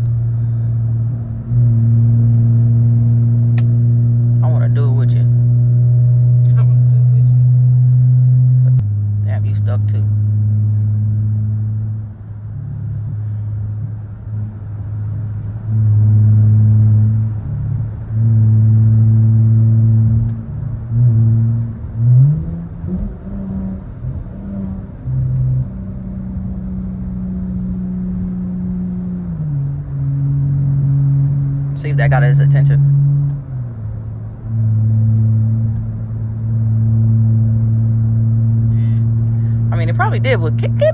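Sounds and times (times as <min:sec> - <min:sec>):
car engine and exhaust surging: 0:00.0 - 0:40.9.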